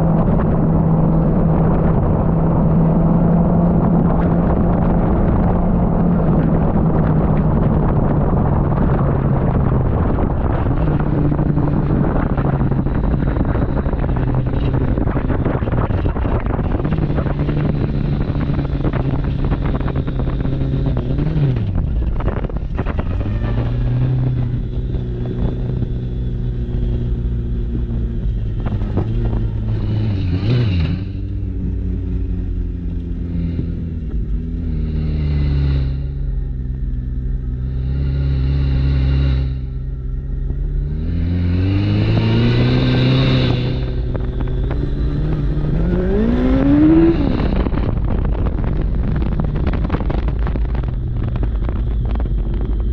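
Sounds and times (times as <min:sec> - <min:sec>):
motorcycle engine running: 0:00.0 - 0:52.9
wind buffeting microphone: 0:00.0 - 0:52.9.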